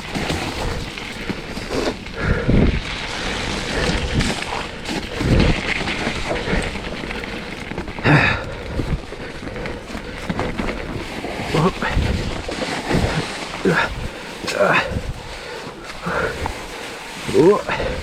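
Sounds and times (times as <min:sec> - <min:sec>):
bike thumping over bumps: 0:00.0 - 0:18.0
bike tyres on snowy trail: 0:00.0 - 0:18.0.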